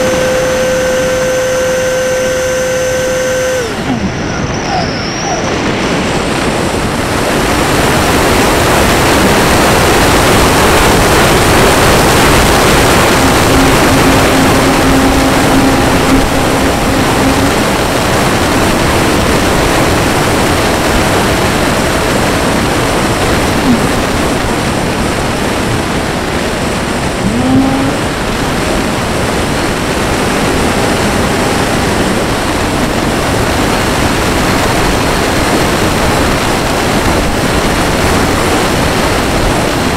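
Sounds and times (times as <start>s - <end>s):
electric ducted fan whirring: 0.0s - 39.9s
wind rushing over camera: 3.6s - 39.9s.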